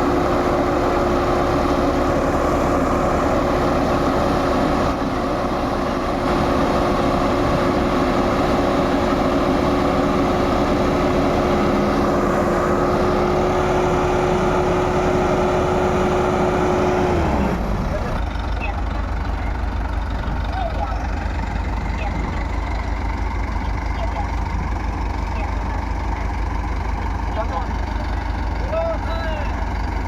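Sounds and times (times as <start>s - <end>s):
diesel machinery running: 0.0s - 30.0s.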